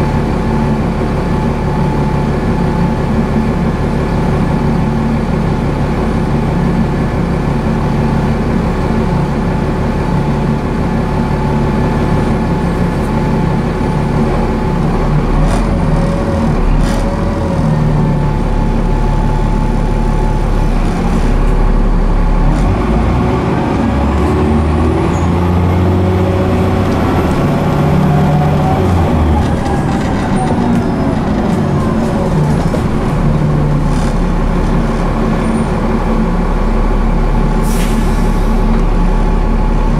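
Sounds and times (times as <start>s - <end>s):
bus engine accelerating: 0.0s - 39.9s.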